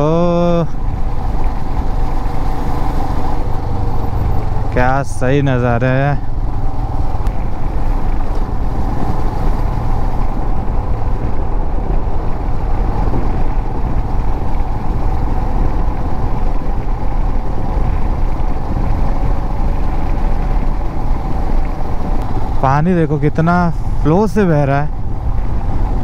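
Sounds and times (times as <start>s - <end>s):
motorcycle engine: 0.0s - 26.0s
wind rushing on microphone: 0.0s - 26.0s.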